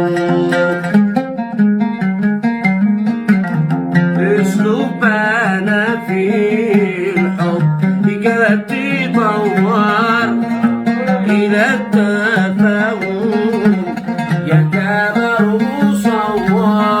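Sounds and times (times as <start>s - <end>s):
person singing ornamented melody: 0.0s - 1.0s, 4.2s - 17.0s
plucked string instrument: 0.0s - 17.0s.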